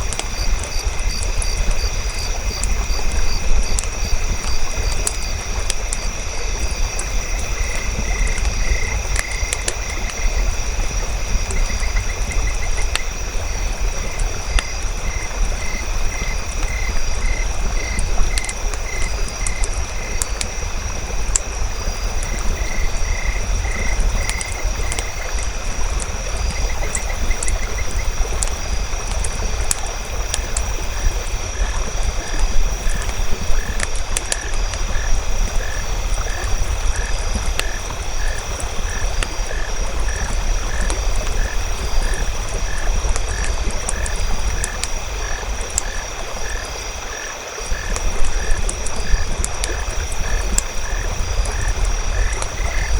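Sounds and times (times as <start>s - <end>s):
campfire crackling and popping: 0.0s - 52.9s
frogs calling: 0.0s - 52.9s
insects trilling: 0.0s - 52.9s.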